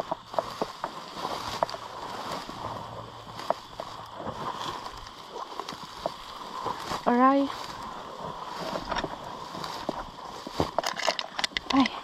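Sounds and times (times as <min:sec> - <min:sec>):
dry grass swishing and crackling: 0:00.0 - 0:12.0.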